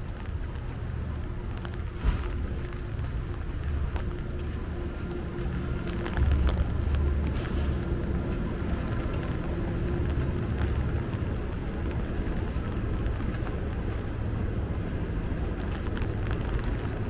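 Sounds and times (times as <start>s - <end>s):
faint hum: 0.0s - 17.0s
motor traffic rumble: 0.0s - 17.0s
rain and wet road noise: 0.0s - 17.0s.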